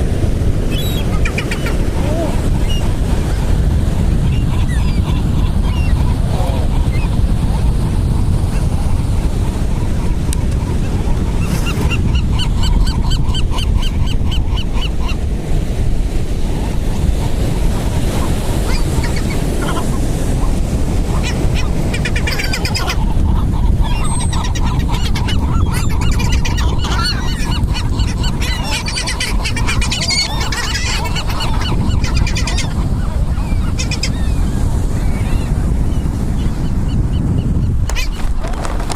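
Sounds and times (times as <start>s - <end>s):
gulls calling: 0.0s - 15.3s, 16.4s - 38.9s
surf rumble: 0.0s - 38.9s
wind: 0.0s - 38.9s.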